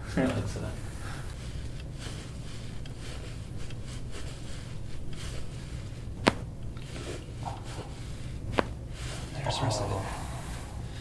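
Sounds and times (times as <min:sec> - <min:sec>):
cloth rustling: 0:00.0 - 0:11.0
steady low hum: 0:00.0 - 0:11.0.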